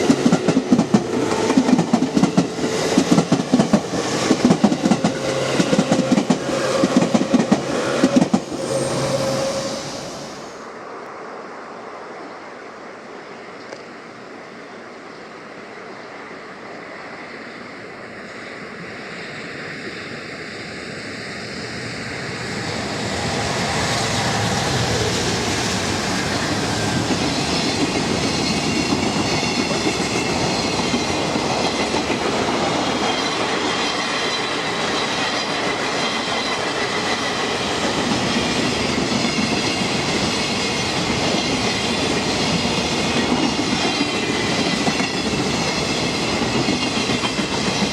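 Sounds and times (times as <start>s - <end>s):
freight train passing: 0.0s - 47.9s.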